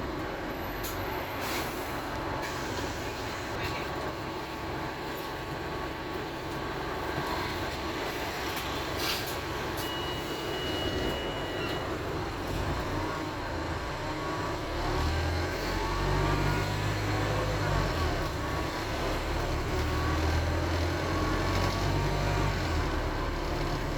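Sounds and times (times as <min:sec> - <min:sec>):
bus diesel engine running: 0:00.0 - 0:23.9.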